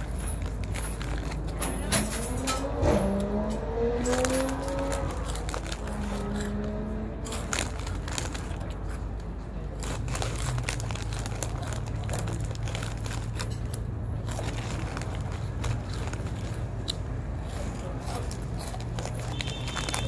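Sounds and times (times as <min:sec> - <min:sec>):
plastic chip bag crinkling: 0:00.0 - 0:20.0.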